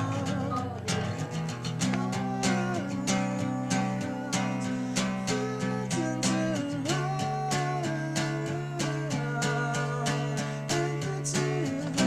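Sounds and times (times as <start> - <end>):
strummed guitar song: 0.0 - 12.0.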